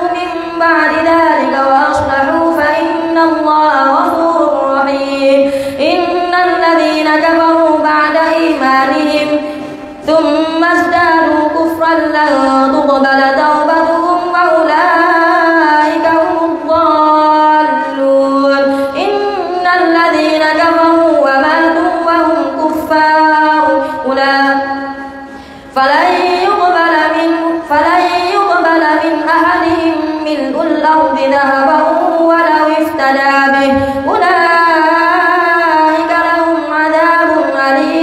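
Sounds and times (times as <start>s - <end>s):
boy chanting melodically: 0.0s - 38.0s.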